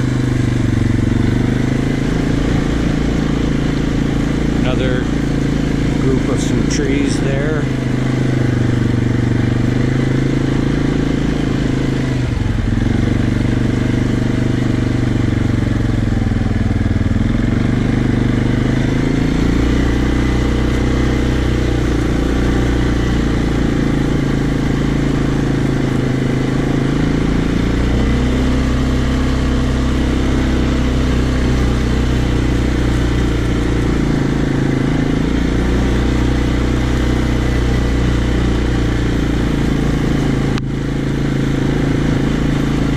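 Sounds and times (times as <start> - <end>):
quad engine running in low gear: 0.0 - 42.9.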